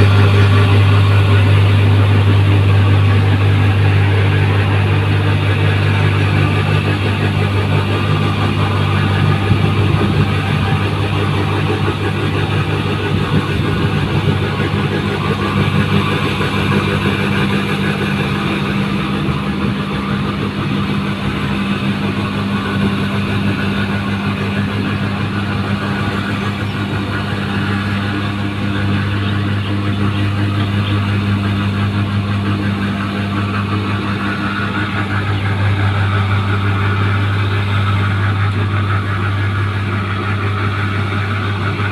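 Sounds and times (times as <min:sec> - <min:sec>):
deep engine drone: 0:00.0 - 0:41.9
machinery noise: 0:00.0 - 0:41.9.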